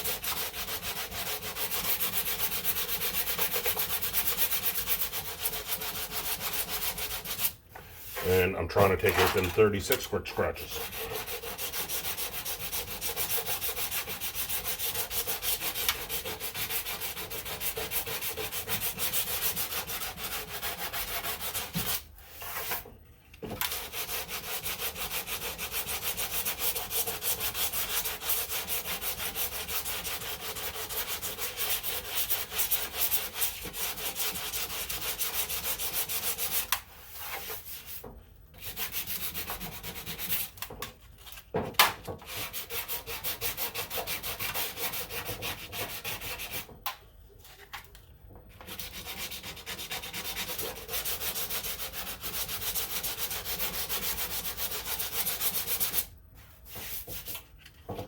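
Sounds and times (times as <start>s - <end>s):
sanding block rubbing filler: 0.0s - 7.6s, 10.6s - 22.8s, 23.7s - 38.0s, 38.6s - 40.5s, 42.3s - 46.7s, 48.7s - 56.1s.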